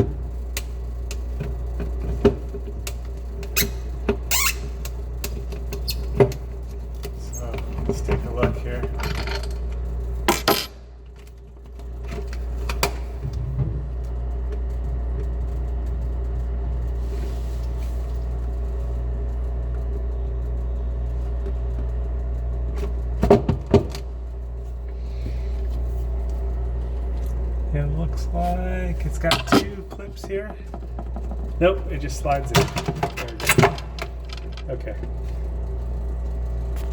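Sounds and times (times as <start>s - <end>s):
refrigerator hum: 0.0s - 36.9s.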